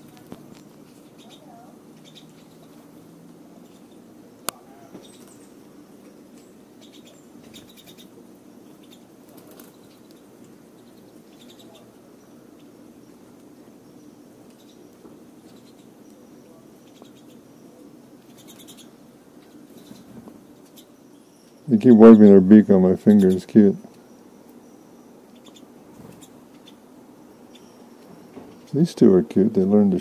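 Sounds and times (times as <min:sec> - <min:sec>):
birds ticking rapidly: 0:00.0 - 0:30.0.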